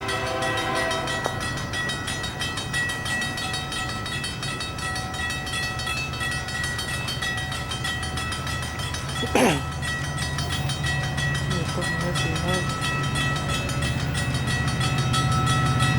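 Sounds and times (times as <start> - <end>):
train rumbling past: 0.0 - 15.9.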